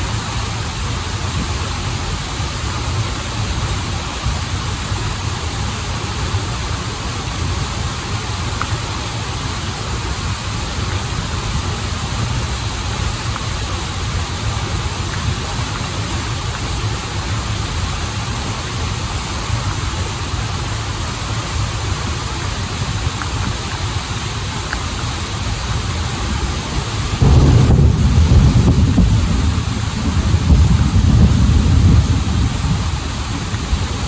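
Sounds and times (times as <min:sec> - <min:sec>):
waterfall and river rushing: 0:00.0 - 0:34.0.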